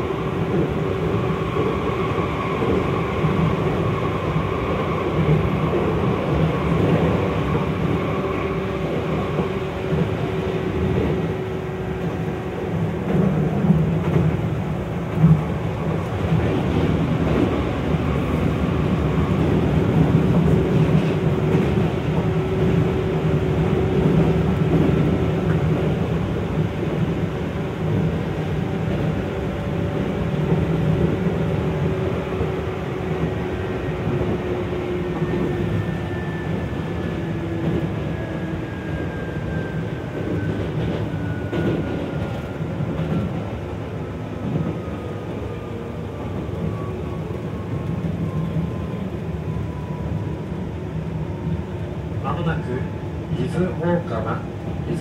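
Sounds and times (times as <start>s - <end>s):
wheel and rail rumble: 0.0s - 55.0s.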